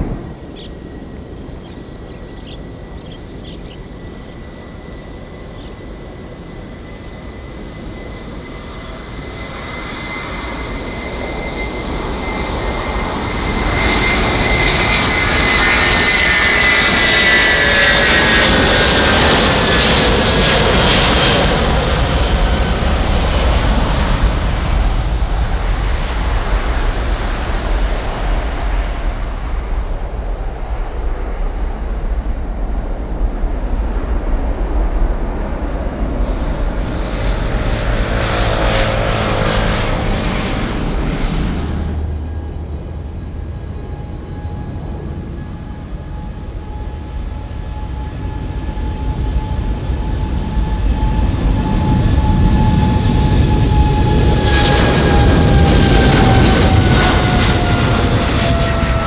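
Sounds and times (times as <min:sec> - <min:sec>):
jet engines at takeoff: 0:00.0 - 0:59.0.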